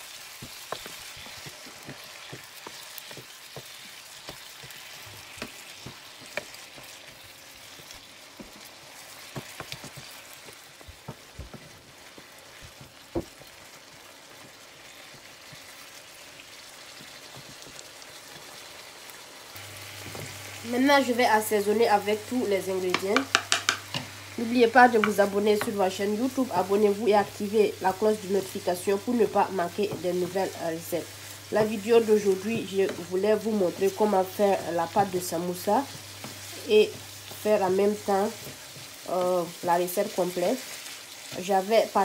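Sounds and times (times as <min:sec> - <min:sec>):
wooden utensil stirring: 0:00.0 - 0:18.8, 0:21.3 - 0:41.6
meat sizzling in a pan: 0:00.0 - 0:42.0.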